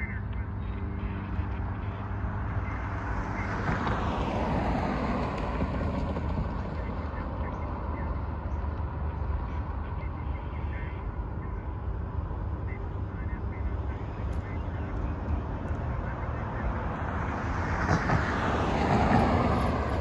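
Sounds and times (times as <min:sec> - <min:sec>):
car passing with tyre noise: 0:00.0 - 0:20.0.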